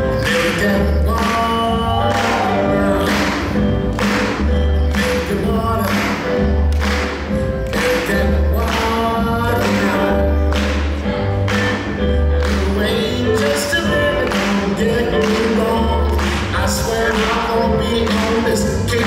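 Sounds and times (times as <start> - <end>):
swing jazz song with singing: 0.0 - 19.0.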